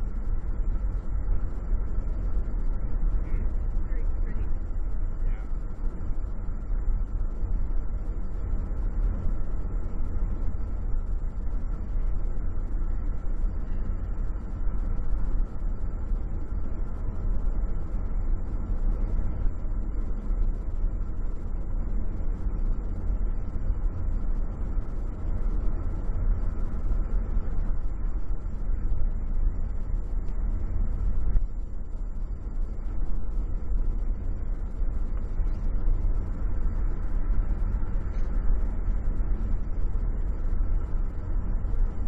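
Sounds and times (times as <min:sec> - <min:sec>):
car cabin road and engine noise: 0:00.0 - 0:42.0.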